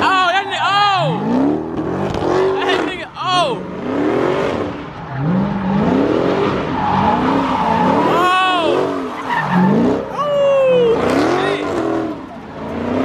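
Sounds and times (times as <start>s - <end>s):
car engine revving: 0.0s - 13.0s
tyres skidding and squealing: 0.0s - 13.0s.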